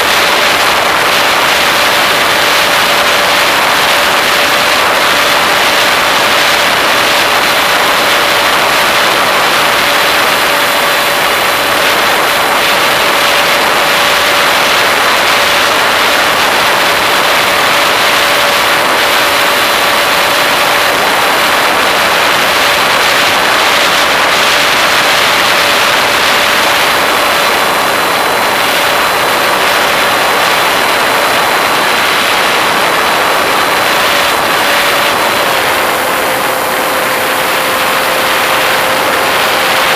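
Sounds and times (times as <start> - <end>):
model airplane motor and propeller: 0.0 - 39.9
rushing wind noise: 0.0 - 39.9.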